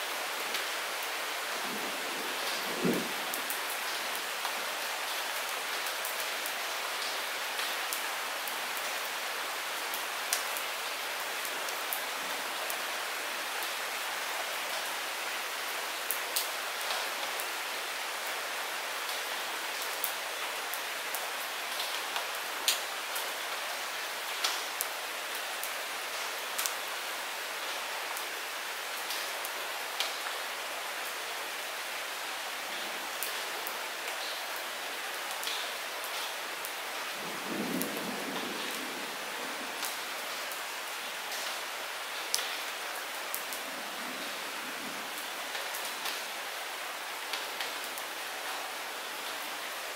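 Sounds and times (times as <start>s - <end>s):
light rain hiss: 0.0s - 49.9s.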